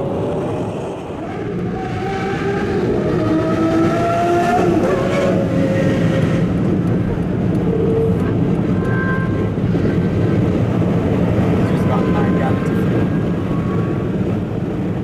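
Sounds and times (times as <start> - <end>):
car engine and road noise inside: 0.0 - 15.0.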